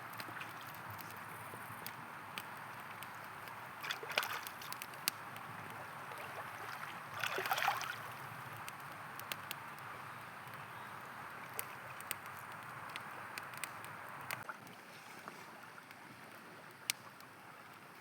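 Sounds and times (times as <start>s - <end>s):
campfire crackling and popping: 0.0s - 14.8s, 15.6s - 18.0s
river water flowing: 0.0s - 16.6s.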